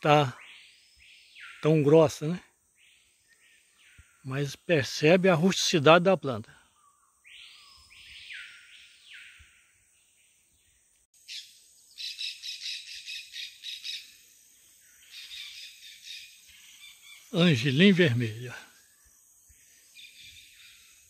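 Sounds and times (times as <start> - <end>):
forest birds calling: 0.0 - 21.0.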